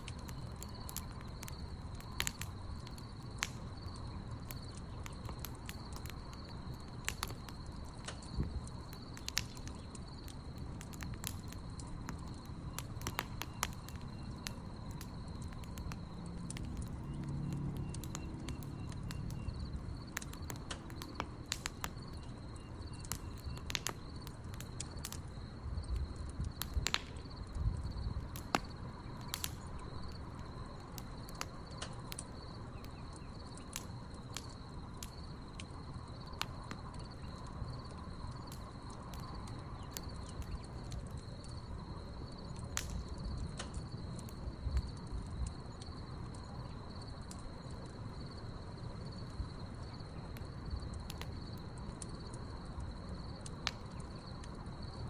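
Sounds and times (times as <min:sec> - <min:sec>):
crickets chirping: 0:00.0 - 0:55.0
wood fire crackling and popping: 0:00.0 - 0:55.0.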